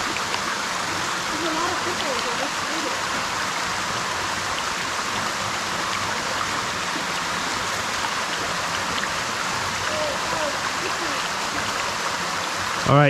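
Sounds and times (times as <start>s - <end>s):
waterfall over rock: 0.0s - 13.0s.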